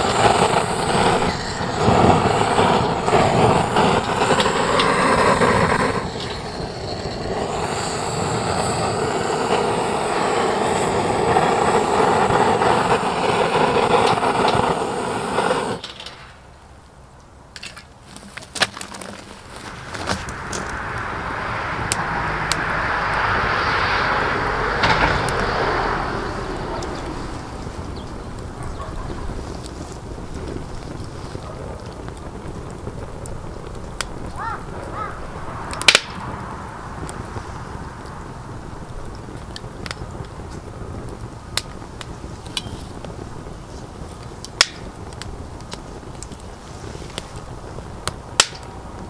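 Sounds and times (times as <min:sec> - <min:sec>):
fire crackling and popping: 0:00.0 - 0:49.0
fire rushing: 0:00.0 - 0:49.0.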